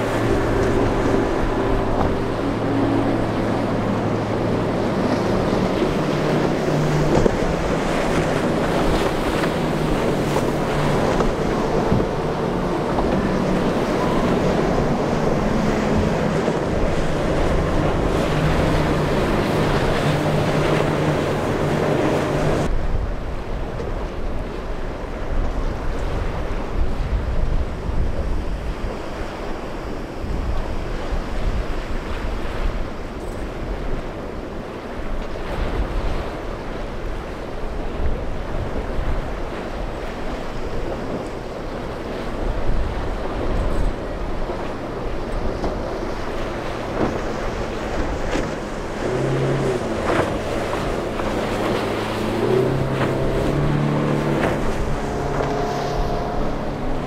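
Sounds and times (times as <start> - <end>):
boat outboard engines: 0.0 - 57.0
choppy surf: 0.0 - 57.0
wind buffeting microphone: 0.0 - 57.0.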